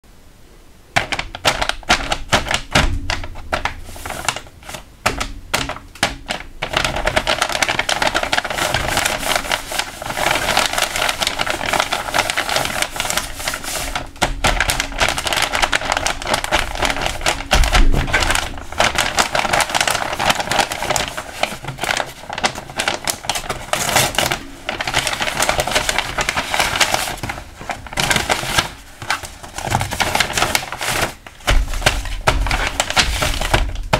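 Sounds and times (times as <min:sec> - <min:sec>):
paper bags rustling: 0:01.0 - 0:33.9
paper crinkling and crackling: 0:01.0 - 0:33.9.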